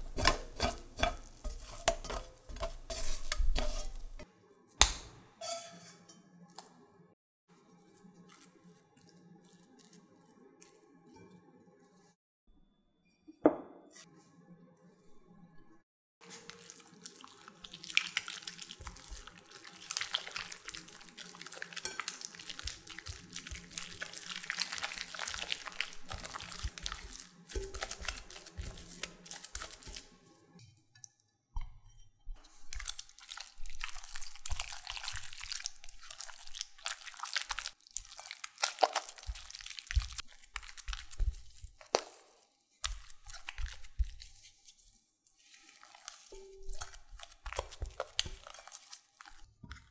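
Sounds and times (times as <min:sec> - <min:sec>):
spatula squishing and scraping glass: 0:00.0 - 0:06.8, 0:16.2 - 0:49.9.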